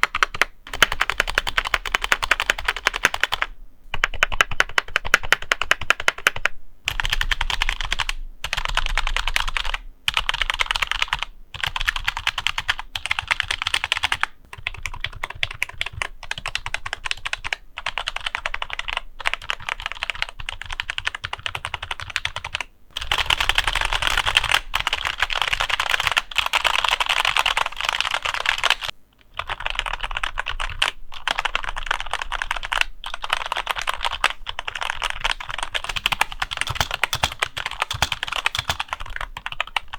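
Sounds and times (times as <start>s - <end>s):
keyboard typing clicks: 0.0s - 17.5s, 19.3s - 39.9s.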